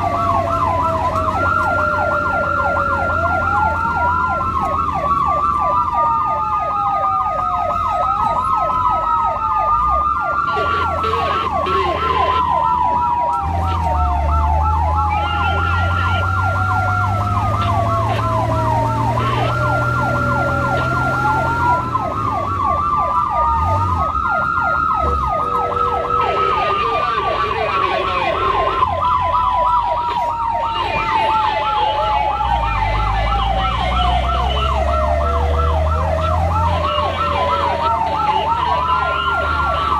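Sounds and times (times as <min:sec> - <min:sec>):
siren wail: 0:00.0 - 0:39.9
siren yelp: 0:00.0 - 0:39.9
vehicle engine rumble: 0:00.0 - 0:39.9.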